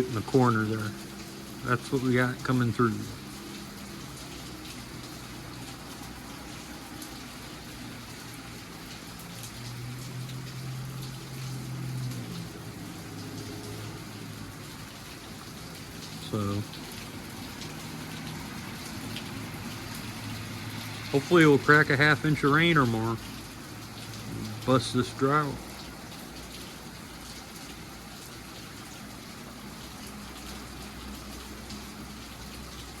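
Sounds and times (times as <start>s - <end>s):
heavy rain pouring: 0.0s - 33.0s
raindrops striking close by: 0.0s - 33.0s
water running and gushing: 0.0s - 33.0s.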